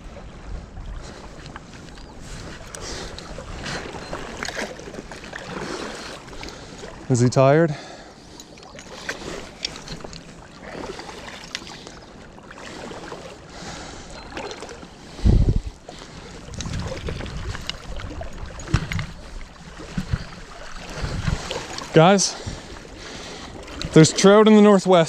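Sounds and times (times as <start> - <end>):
river water splashing: 0.0 - 25.0.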